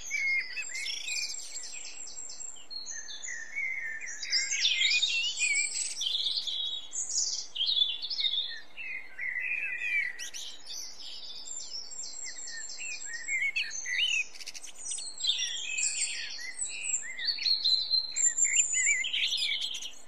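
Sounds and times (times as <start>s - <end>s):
songbirds singing and chirping: 0.0s - 20.0s.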